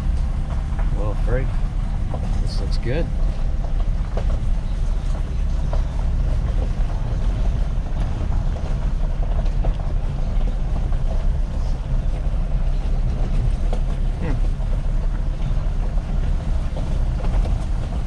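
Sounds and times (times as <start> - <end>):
vehicle engine rumbling: 0.0 - 18.0
wind buffeting microphone: 0.0 - 18.0.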